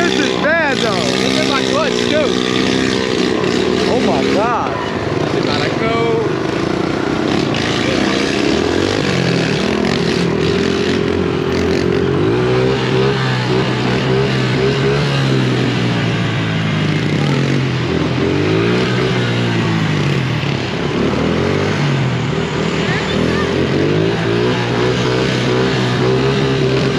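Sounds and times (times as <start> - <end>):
motorcycle engines revving: 0.0 - 26.9.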